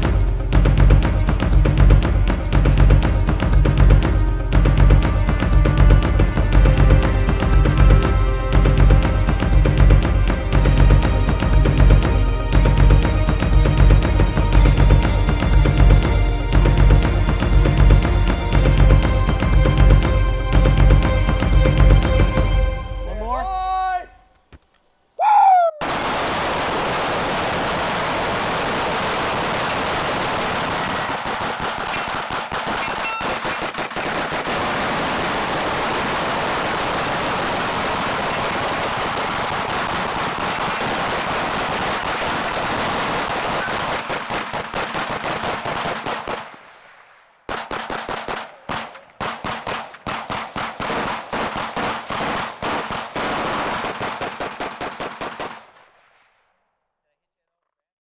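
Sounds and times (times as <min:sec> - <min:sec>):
rapid gunfire: 0:00.0 - 0:20.1, 0:25.8 - 0:56.0.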